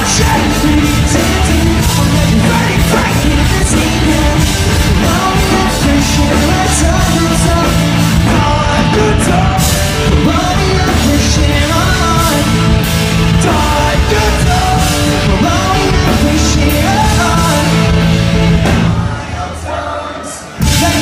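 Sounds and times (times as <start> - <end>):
live pop-punk band playing: 0.0 - 21.0.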